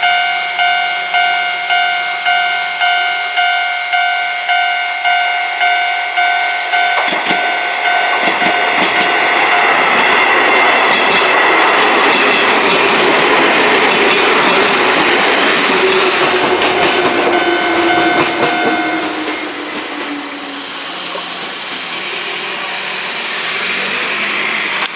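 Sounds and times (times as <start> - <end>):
level-crossing alarm bell ringing: 0.0 - 20.1
train whine: 0.0 - 24.9
train wheels clacking over rails: 4.5 - 24.9.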